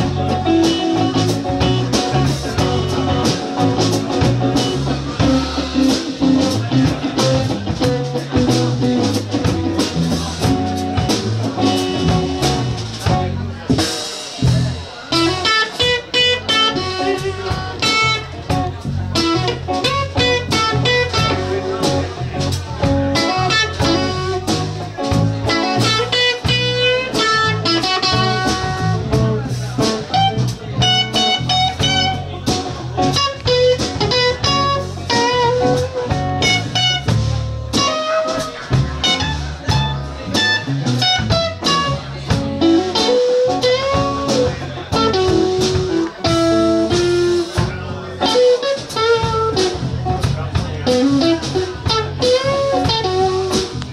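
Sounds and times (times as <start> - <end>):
drum kit: 0.0 - 53.9
electric guitar lead lines: 0.0 - 53.9
low rhythm part: 0.0 - 53.9.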